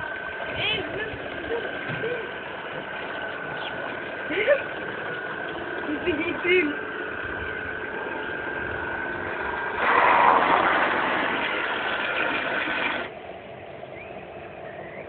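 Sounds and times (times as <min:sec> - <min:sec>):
engine running with whine: 0:00.0 - 0:12.3, 0:12.9 - 0:15.0.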